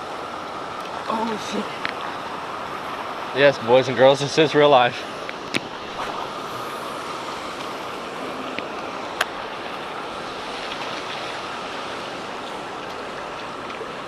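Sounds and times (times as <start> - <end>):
water rushing through spillway: 0.0 - 14.0.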